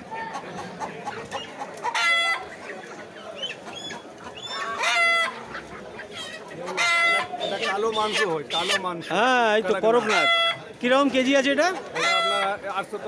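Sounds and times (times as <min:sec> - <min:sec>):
chickens calling loudly: 0:00.0 - 0:13.0
chickens chirping and clucking: 0:00.0 - 0:13.0.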